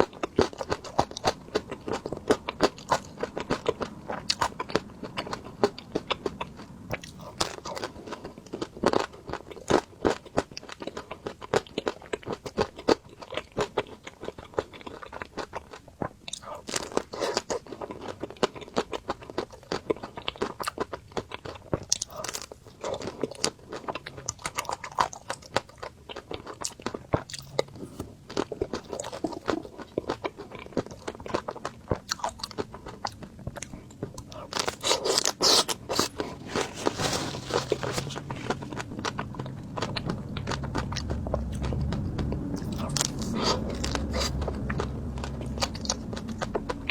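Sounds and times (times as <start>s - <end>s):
crunching and chewing ice cream: 0.0s - 46.9s.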